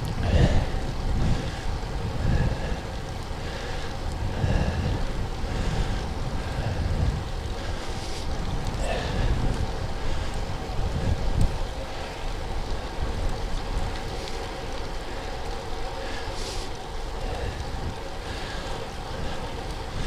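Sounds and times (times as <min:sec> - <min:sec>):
road noise: 0:00.0 - 0:20.0
wind buffeting microphone: 0:00.0 - 0:20.0.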